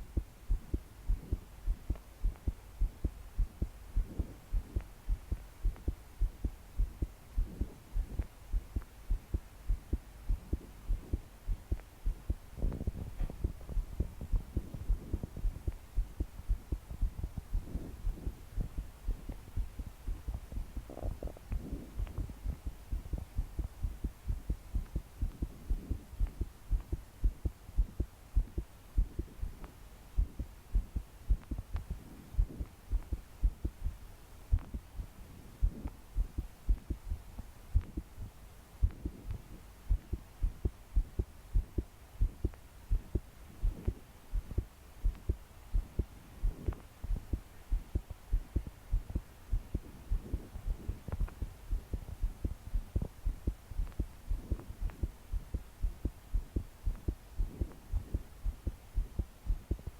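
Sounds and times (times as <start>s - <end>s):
heart pounding fast: 0.0s - 59.9s.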